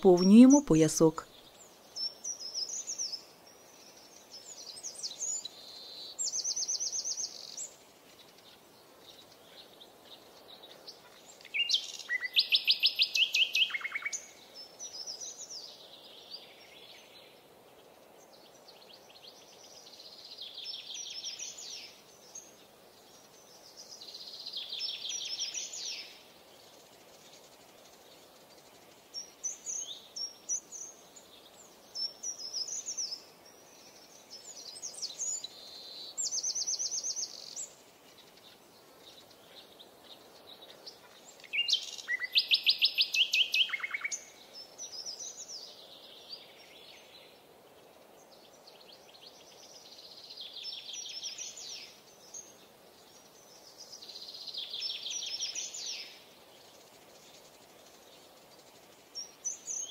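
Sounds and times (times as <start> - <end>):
faint steady hiss: 0.0 - 59.9
songbirds chirping and trilling: 0.0 - 59.9.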